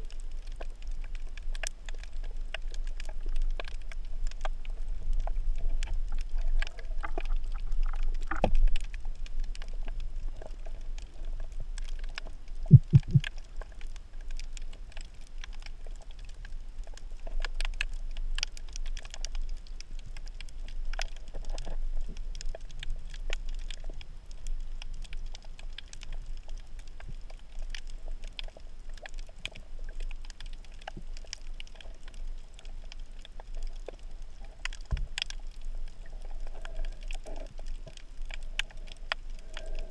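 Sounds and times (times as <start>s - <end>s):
crackling clicks: 0.0s - 39.9s
low rumble of water movement: 0.0s - 39.9s.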